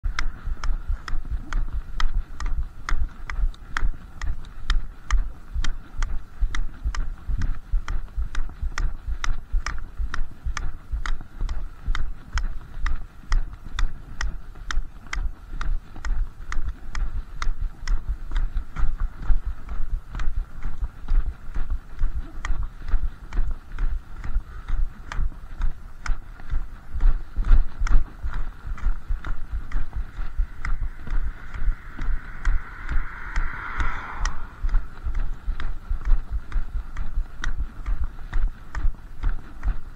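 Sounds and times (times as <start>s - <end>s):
dull low thuds of steps: 0.0s - 39.9s.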